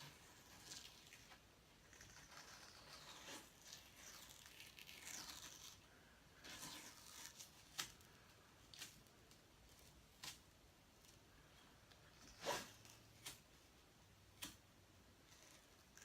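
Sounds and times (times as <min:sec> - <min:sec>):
tape peeling and crinkling: 0:00.0 - 0:11.2, 0:11.9 - 0:13.7, 0:14.3 - 0:16.0.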